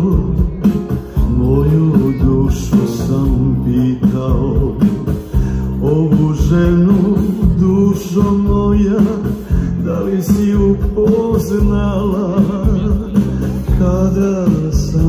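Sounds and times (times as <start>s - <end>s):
guitars: 0.0s - 15.0s
man singing: 0.0s - 15.0s.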